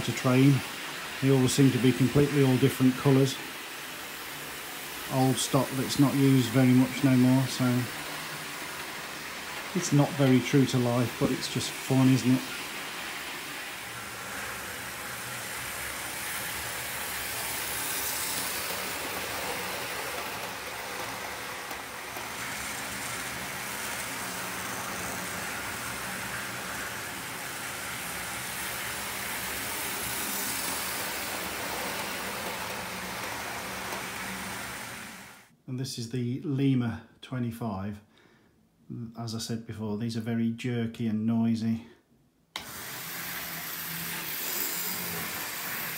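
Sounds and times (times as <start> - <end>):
model trains whirring on track: 0.0 - 35.5, 42.6 - 45.9.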